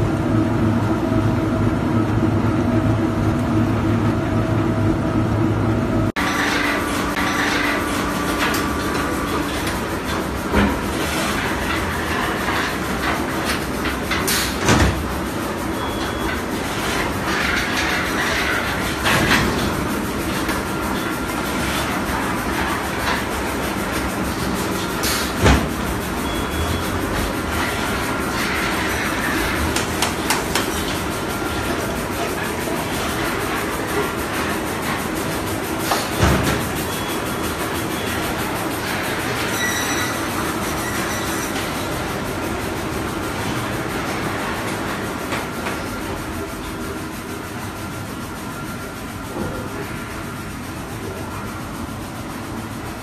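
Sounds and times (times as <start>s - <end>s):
conveyor machine noise: 0.0s - 53.0s.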